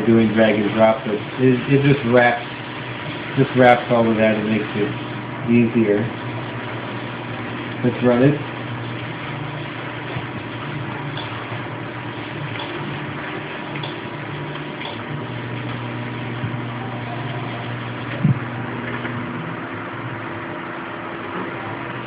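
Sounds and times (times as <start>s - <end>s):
computer hum and hiss: 0.0s - 22.0s.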